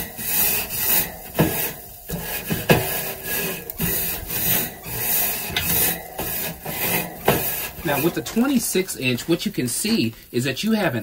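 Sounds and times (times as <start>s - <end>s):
grill brush scraping wire grate: 0.0s - 10.1s.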